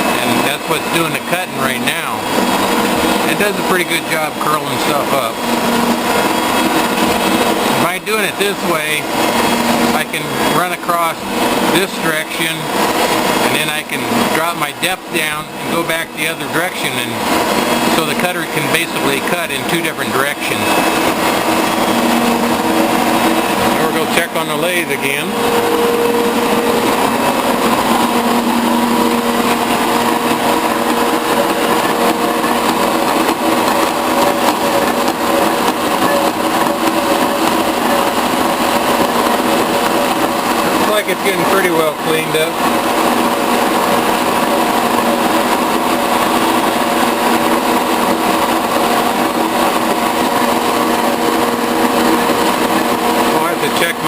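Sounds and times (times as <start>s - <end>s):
lathe and shaper running: 0.0s - 54.0s.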